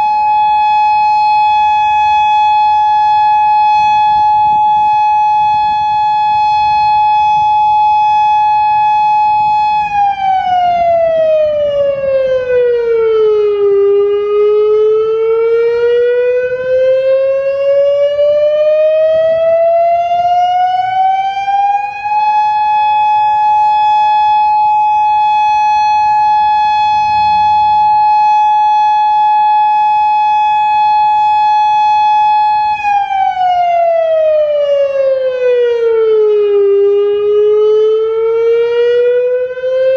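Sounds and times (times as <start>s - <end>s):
outdoor warning siren wailing: 0.0s - 39.9s.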